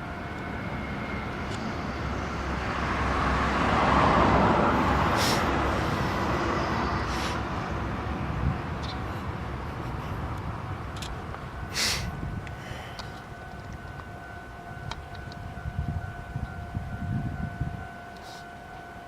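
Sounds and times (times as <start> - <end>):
train rolling on track: 0.0 - 19.0.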